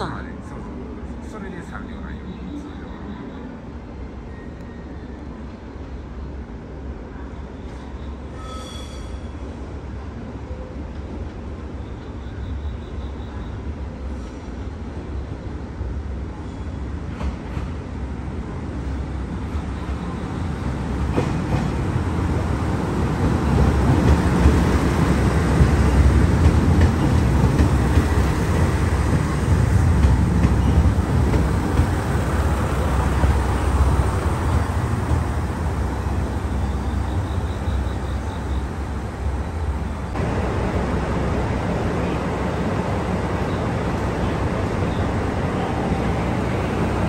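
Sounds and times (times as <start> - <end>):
diesel train engine and wheel rumble: 0.0 - 47.0.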